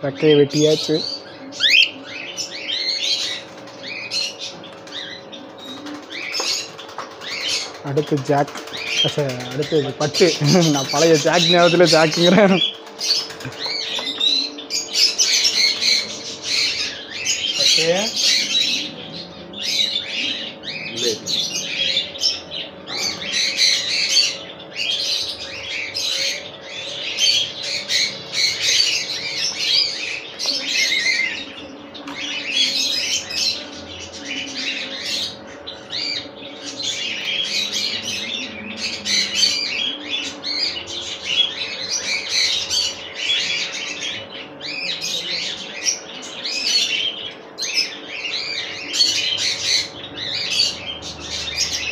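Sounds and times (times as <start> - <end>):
caged birds chirping and squawking: 0.0 - 51.9
steady low hum: 0.0 - 51.9.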